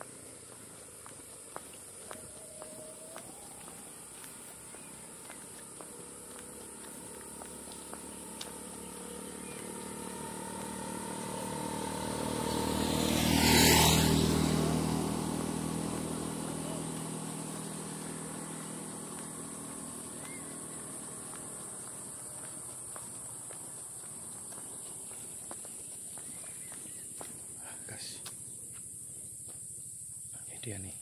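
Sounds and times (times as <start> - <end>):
motorcycle passing by: 0.0 - 30.3.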